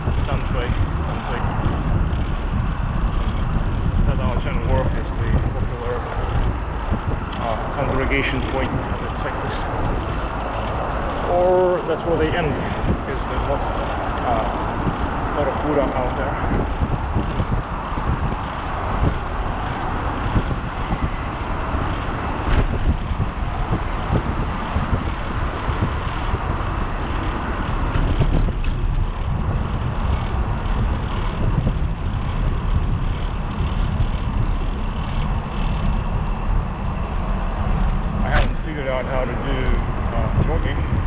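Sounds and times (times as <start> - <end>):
bicycle rumble: 0.0 - 41.0
wind buffeting microphone: 0.0 - 41.0.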